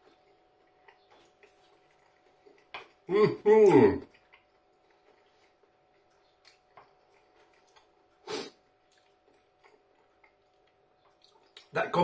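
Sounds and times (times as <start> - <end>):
man chewing food: 0.0 - 12.0.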